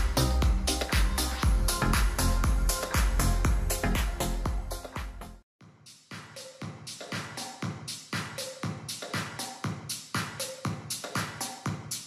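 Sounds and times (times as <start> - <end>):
electronic dance music: 0.0 - 5.4, 6.1 - 12.0.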